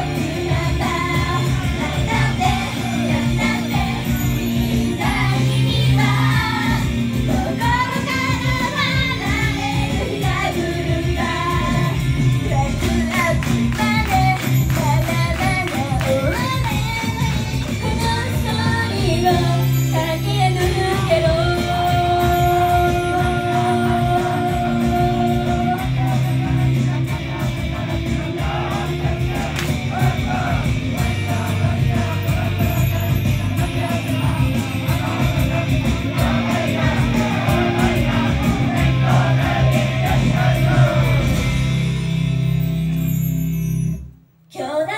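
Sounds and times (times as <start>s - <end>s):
backing band: 0.0s - 19.6s, 20.2s - 43.2s
girl group singing pop song: 0.0s - 41.6s.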